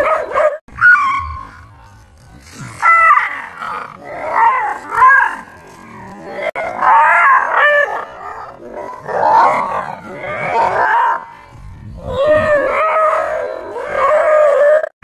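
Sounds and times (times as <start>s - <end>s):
dog barking and growling: 0.0s - 14.9s.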